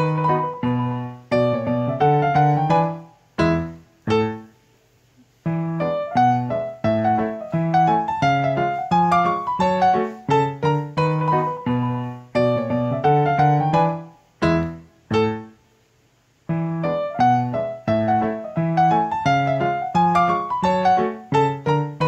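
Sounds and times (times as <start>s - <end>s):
piano music: 0.0s - 4.6s, 5.4s - 15.6s, 16.5s - 22.0s.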